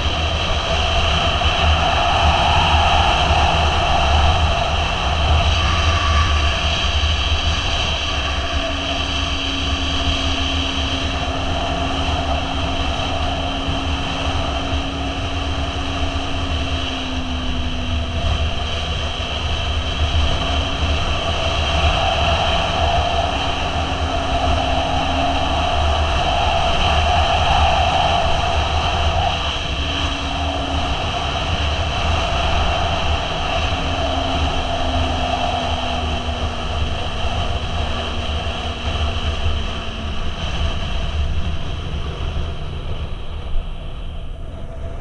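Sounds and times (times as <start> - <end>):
motorcycle engine running: 0.0 - 45.0
wind rush on microphone: 0.0 - 45.0.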